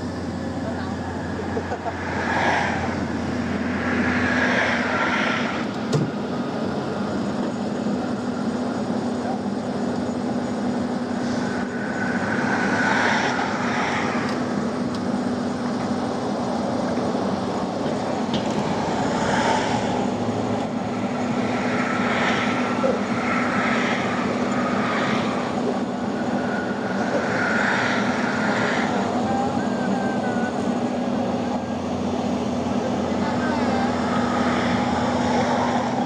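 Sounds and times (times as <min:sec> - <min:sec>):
excavator diesel engine whining: 0:00.0 - 0:36.0.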